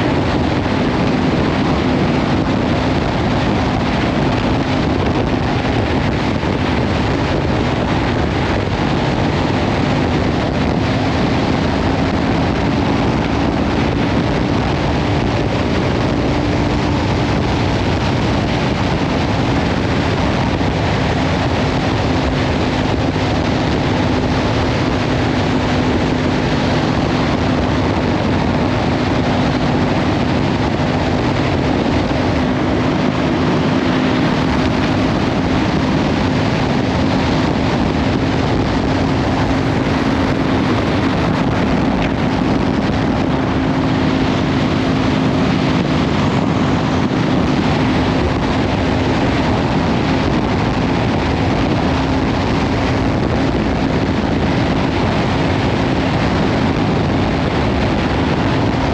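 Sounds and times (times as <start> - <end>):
motorcycle engine cruising: 0.0 - 58.9
wind noise on microphone: 0.0 - 58.9.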